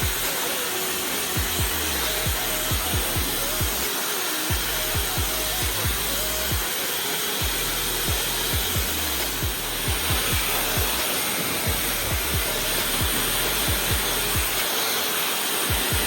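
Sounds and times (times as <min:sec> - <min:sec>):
electronic music with drum beat: 0:00.0 - 0:16.0
hair dryer air rush: 0:00.0 - 0:16.0.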